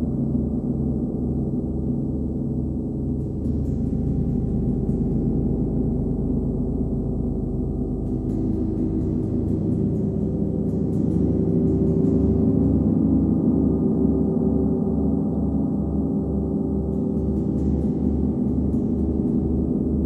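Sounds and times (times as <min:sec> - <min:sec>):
wind gong low drone: 0:00.0 - 0:20.0.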